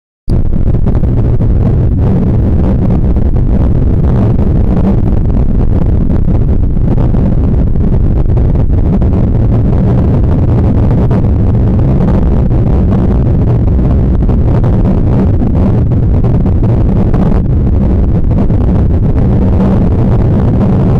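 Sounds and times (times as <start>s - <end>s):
low rumbling drone: 0.3s - 20.9s.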